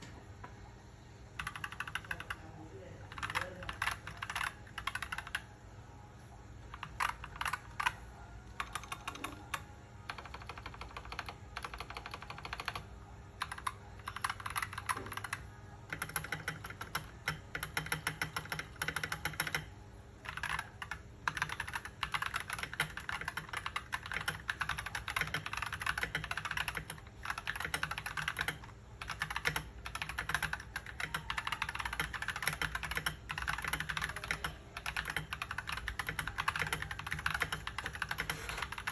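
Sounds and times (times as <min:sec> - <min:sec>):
typing on mechanical keyboard: 0:01.4 - 0:05.6, 0:06.6 - 0:38.9.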